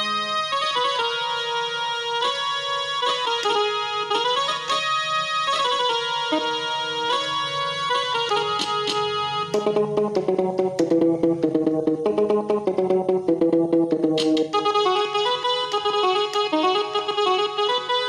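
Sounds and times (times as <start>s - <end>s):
mini keyboard melody: 0.0s - 18.0s.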